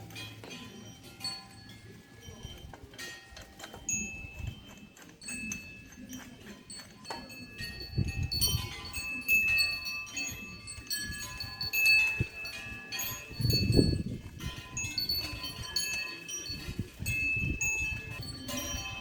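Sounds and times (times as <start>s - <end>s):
metallic ringing tones: 0.0s - 19.0s.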